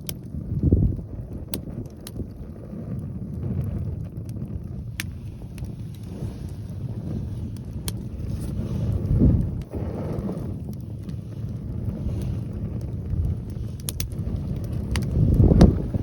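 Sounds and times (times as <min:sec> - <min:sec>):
bonfire crackling and popping: 0:00.0 - 0:16.0
wind buffeting microphone: 0:00.0 - 0:16.0.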